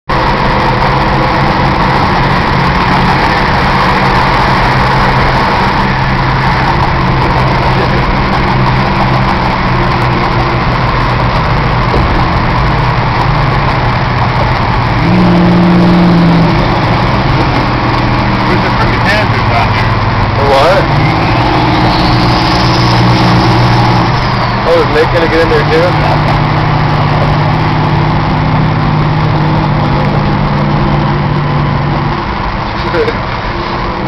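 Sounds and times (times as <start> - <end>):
car engine and road noise: 0.1 - 34.0.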